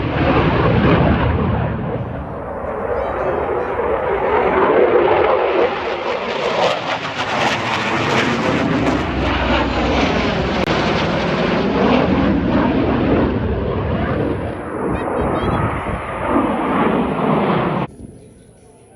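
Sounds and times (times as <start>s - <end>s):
aircraft flying overhead: 0.0s - 18.9s.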